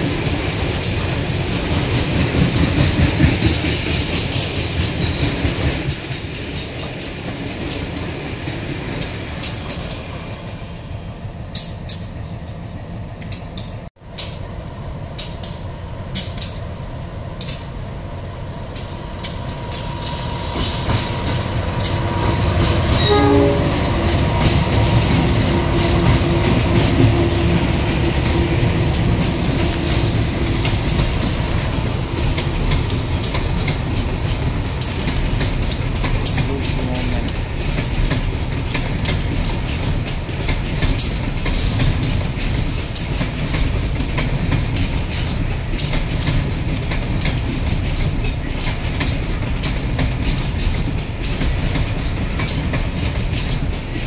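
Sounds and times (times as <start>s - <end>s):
train wheels clacking on rails: 0.0s - 54.0s.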